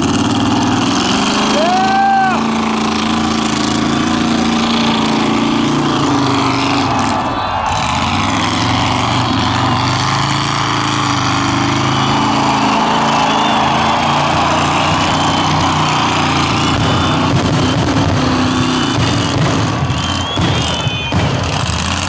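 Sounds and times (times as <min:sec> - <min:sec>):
loud car engine revving: 0:00.0 - 0:22.0.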